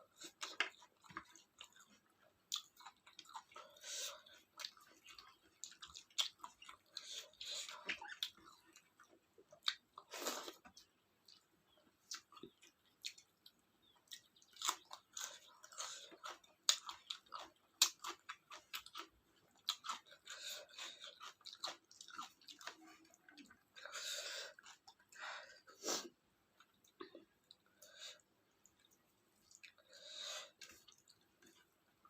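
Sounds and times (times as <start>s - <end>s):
chewing and mouth sounds: 0.1s - 25.2s, 26.6s - 31.7s.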